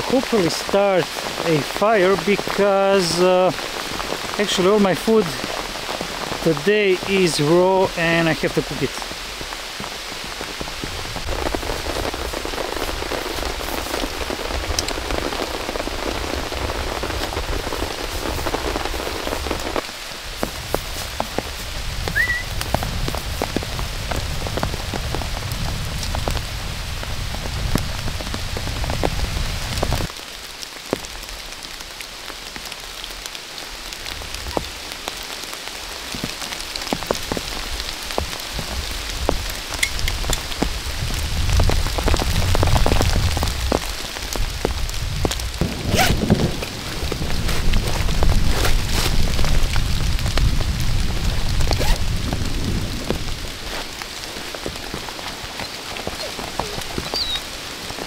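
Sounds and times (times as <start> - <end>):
heavy rain ticking on a surface: 0.0 - 58.0.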